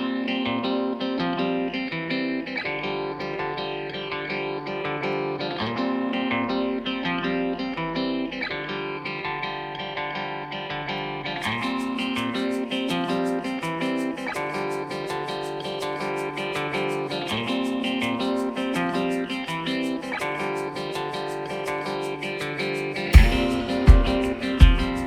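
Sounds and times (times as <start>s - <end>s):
strummed guitar music: 0.0s - 25.0s.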